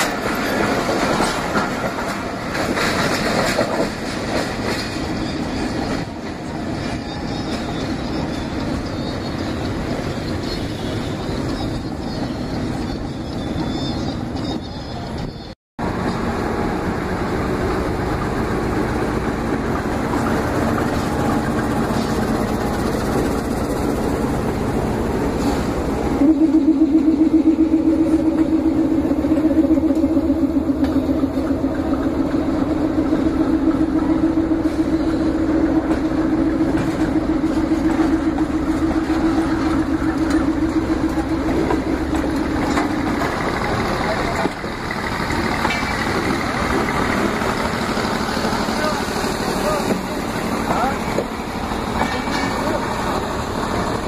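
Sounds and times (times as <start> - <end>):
diesel locomotive passing: 0.0 - 54.0.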